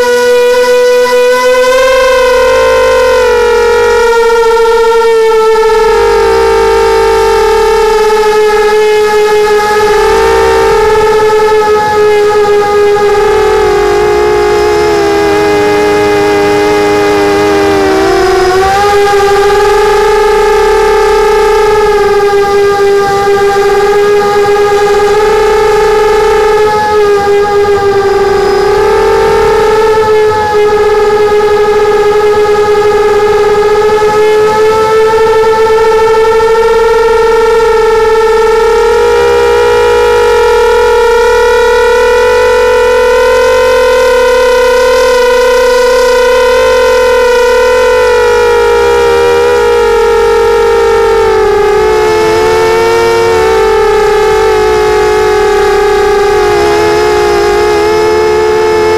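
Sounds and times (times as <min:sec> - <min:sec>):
quadcopter motors buzzing: 0:00.1 - 0:58.9.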